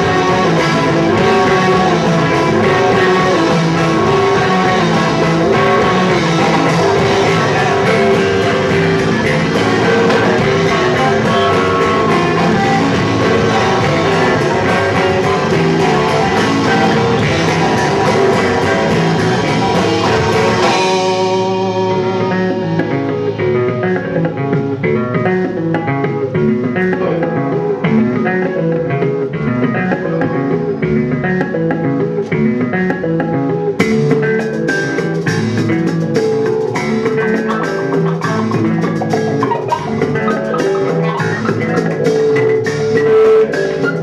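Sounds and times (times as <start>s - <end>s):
bass guitar: 0.0s - 44.0s
drum kit: 0.0s - 44.0s
electric guitar: 0.0s - 44.0s.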